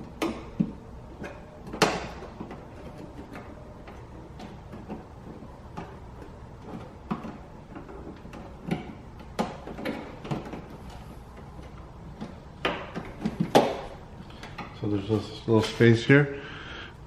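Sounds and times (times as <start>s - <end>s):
clicks and knocks of plastic trim: 0.0s - 14.7s.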